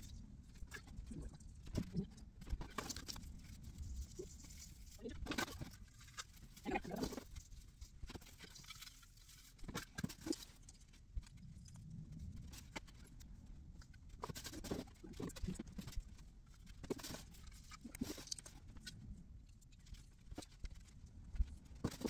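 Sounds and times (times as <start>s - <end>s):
ornaments clicking and rustling: 0.0s - 22.0s.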